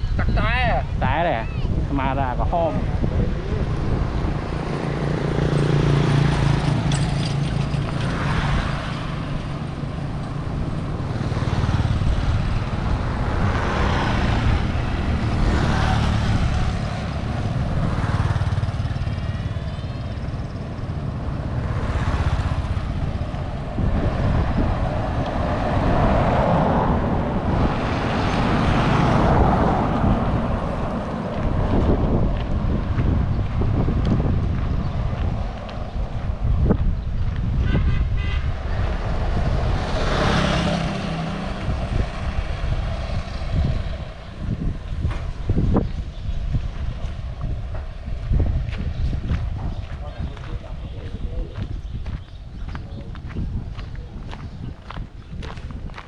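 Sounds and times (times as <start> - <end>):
vehicles passing on road: 0.0 - 56.0
wind buffeting microphone: 0.0 - 56.0.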